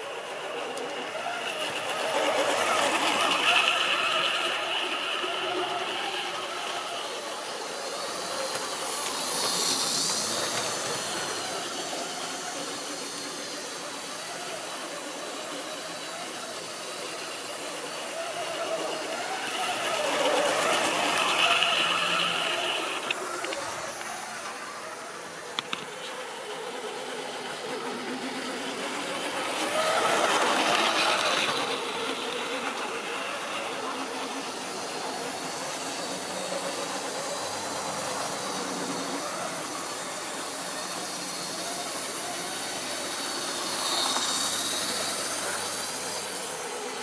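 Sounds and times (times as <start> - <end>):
model train motors whining: 0.0 - 47.0
wheels rattling on track: 0.0 - 47.0.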